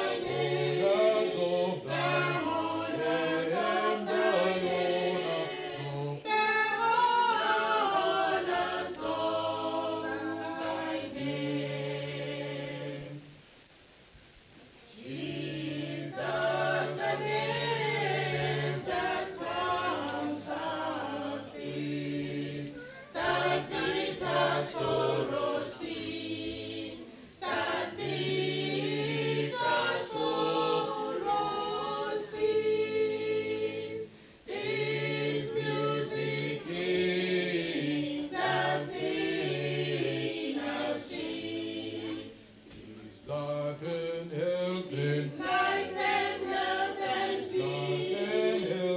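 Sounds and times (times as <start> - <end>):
group singing a hymn: 0.0 - 48.9.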